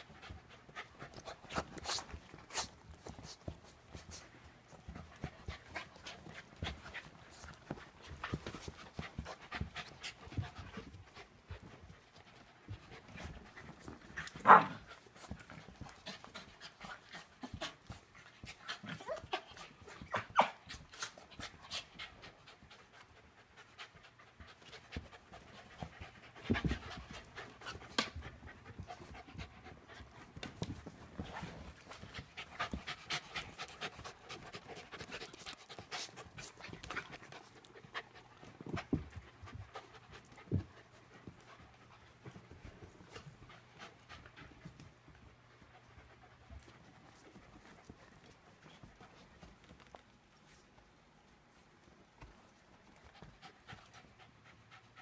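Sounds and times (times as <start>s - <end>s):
dogs panting: 0.0s - 50.8s, 52.2s - 55.0s.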